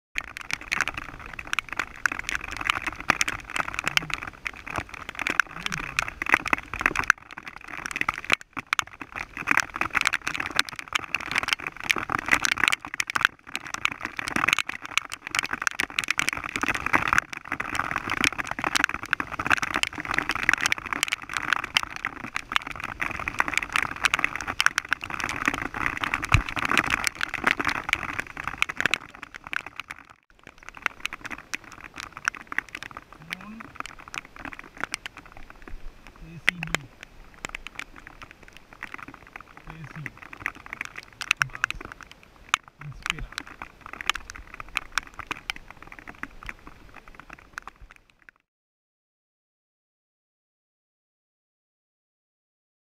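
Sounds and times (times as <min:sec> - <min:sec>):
rain pattering: 0:00.2 - 0:48.4.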